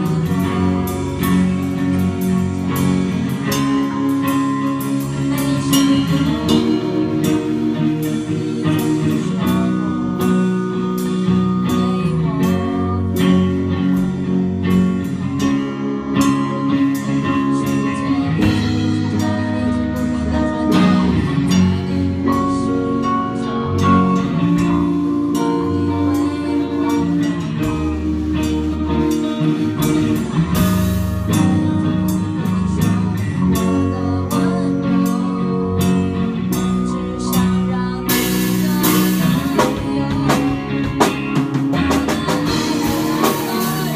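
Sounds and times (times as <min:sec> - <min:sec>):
drum kit: 0:00.0 - 0:43.9
electric guitars: 0:00.0 - 0:43.9
woman singing: 0:00.0 - 0:43.9.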